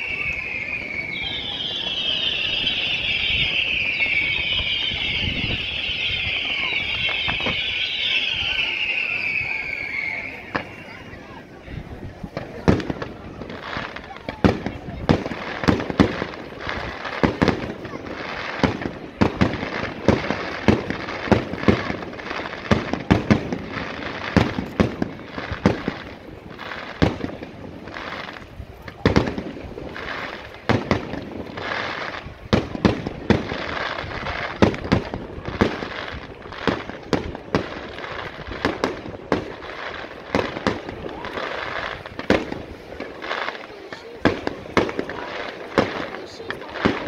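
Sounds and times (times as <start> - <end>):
firework crackling: 0.0 - 47.0.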